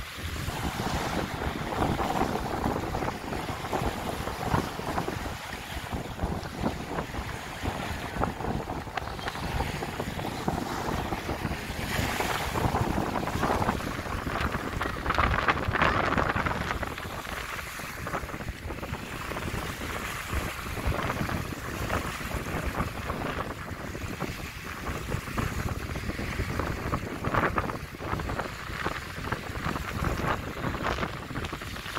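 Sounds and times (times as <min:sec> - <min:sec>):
small waves lapping on shore: 0:00.0 - 0:31.9
wind buffeting microphone: 0:00.0 - 0:31.9.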